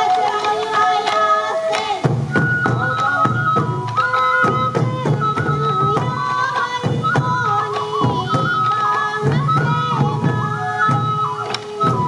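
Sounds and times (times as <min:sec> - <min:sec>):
hand drums beating: 0:00.0 - 0:12.0
high flute melody: 0:00.0 - 0:12.0.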